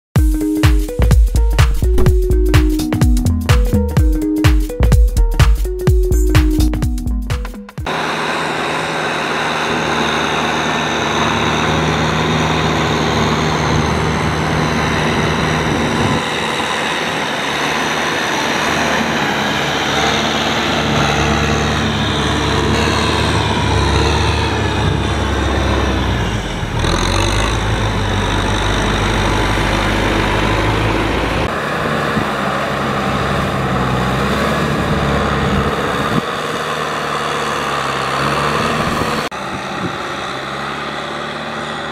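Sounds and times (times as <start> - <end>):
tractor diesel engine under load: 4.8 - 41.9.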